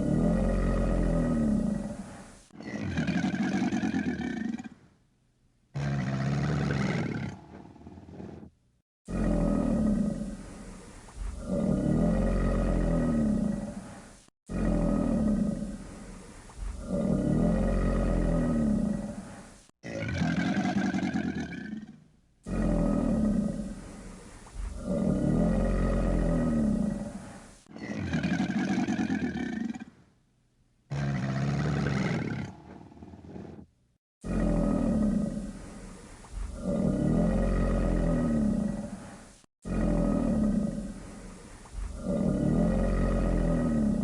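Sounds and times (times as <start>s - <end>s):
crocodile roaring: 0.0s - 4.7s, 5.8s - 8.5s, 9.1s - 24.0s, 24.6s - 29.9s, 30.9s - 44.0s.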